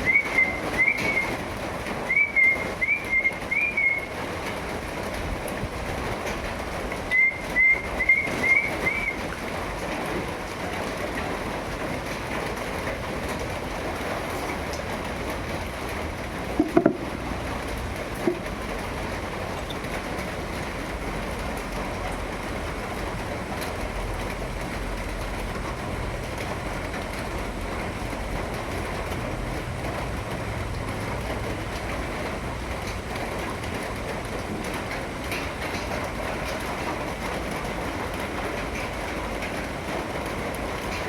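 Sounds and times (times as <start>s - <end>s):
heavy rain hiss: 0.0s - 41.0s.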